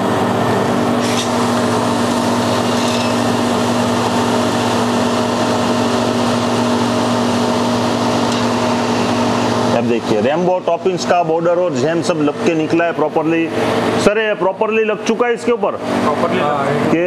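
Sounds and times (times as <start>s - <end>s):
ice cream machine humming: 0.0s - 17.0s.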